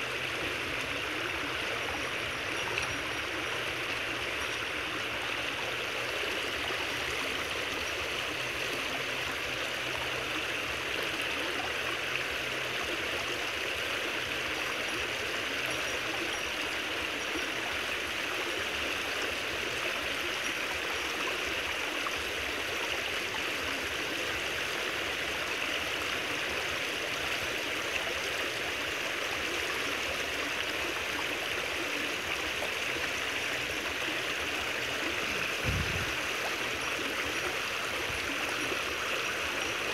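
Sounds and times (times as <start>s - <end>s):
creek water rushing and pouring: 0.0s - 39.9s.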